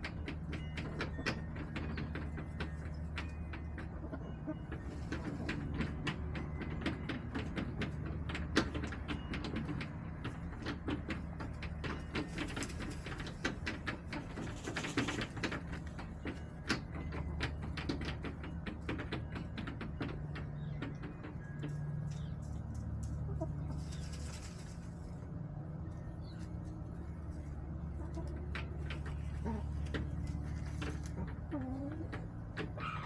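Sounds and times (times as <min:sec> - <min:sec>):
hens pecking taps: 0:00.0 - 0:33.0.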